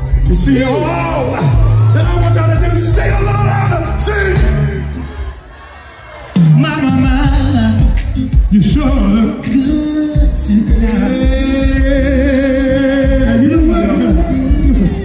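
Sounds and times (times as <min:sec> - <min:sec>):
man singing: 0:00.0 - 0:05.1, 0:06.3 - 0:15.0
band with heavy bass: 0:00.0 - 0:15.0.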